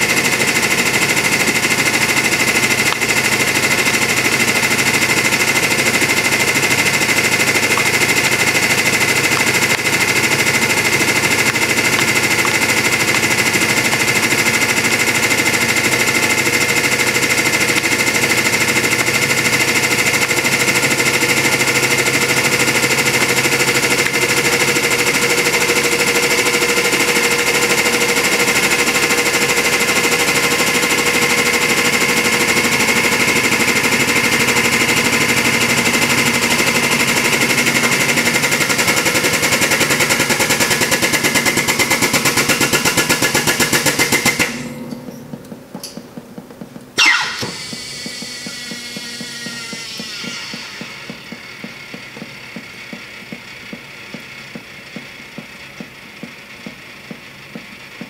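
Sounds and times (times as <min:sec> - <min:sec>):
hydraulic pump pulsing: 0:00.0 - 0:58.0.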